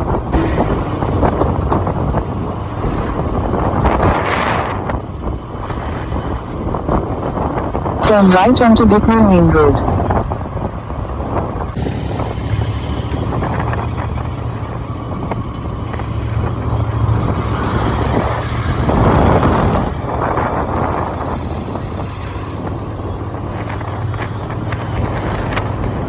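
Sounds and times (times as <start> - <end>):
motorcycle engine running: 0.0 - 8.0, 9.0 - 26.0
wind and road noise: 0.0 - 26.0.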